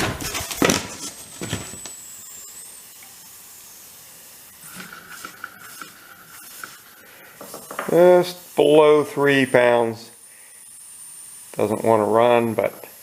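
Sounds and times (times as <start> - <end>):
air hissing: 0.0 - 13.0.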